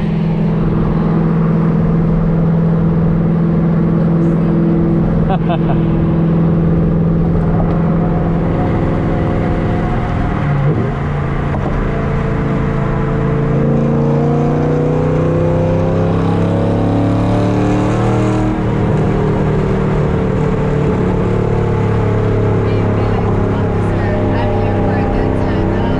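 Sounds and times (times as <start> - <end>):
car engine droning through exhaust: 0.0 - 25.9.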